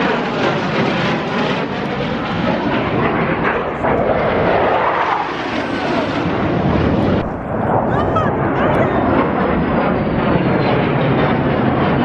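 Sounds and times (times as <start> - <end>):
jet aircraft engines: 0.0 - 12.0.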